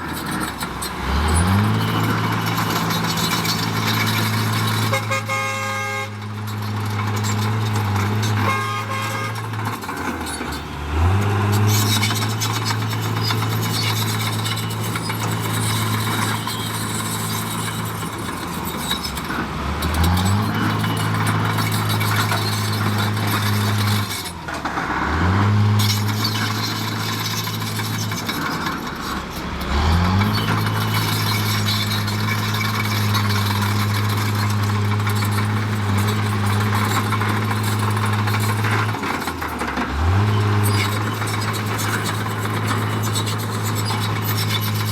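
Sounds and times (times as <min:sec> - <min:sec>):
heavy diesel engine revving: 0:00.0 - 0:44.9.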